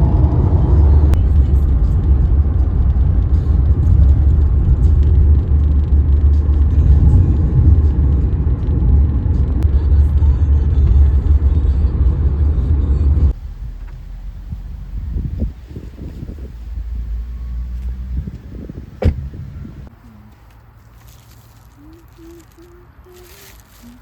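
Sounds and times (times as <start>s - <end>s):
car engine: 0.0s - 24.0s
road noise: 0.0s - 24.0s.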